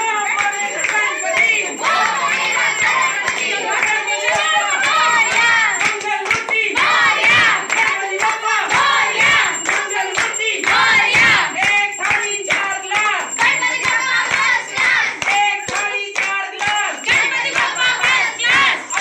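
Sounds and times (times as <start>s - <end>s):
crowd singing and chanting: 0.0s - 19.0s
hand-clapping in time: 0.0s - 19.0s
small bell ringing: 0.0s - 19.0s.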